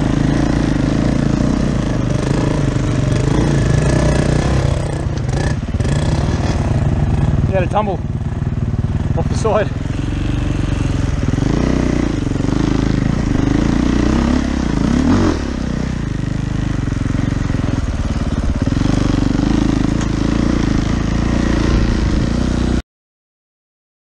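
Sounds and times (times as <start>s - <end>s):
dirt bike engine revving: 0.0s - 22.8s.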